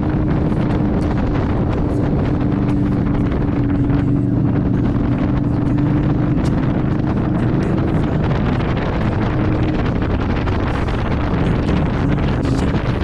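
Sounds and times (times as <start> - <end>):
motorcycle engine cruising: 0.0 - 13.0
wind buffeting microphone: 0.0 - 13.0.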